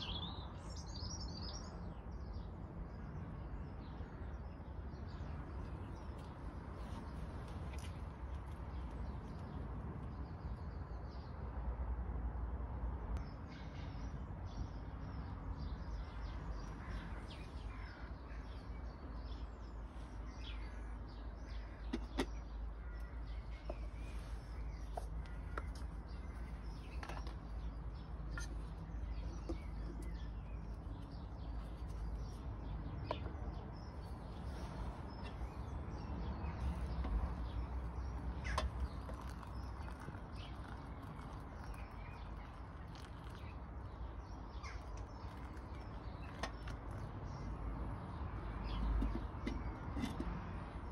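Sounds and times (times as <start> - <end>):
birds chirping: 0.0 - 11.4, 13.2 - 50.9.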